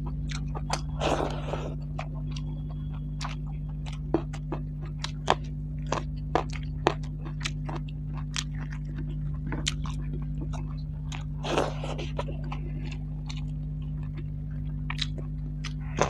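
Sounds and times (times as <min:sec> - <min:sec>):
person chewing food: 0:00.0 - 0:16.0
steady low hum: 0:00.0 - 0:16.0.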